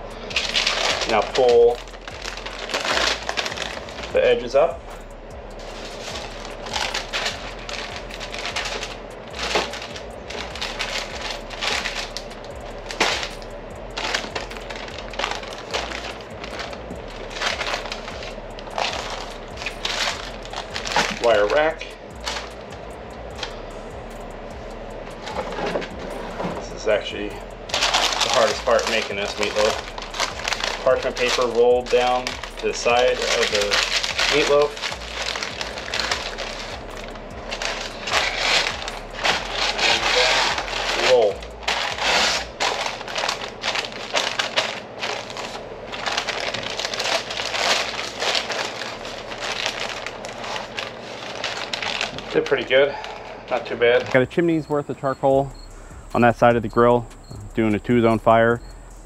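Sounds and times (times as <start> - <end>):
parchment paper crinkling: 0.2 - 4.7, 5.6 - 22.7, 25.1 - 59.0.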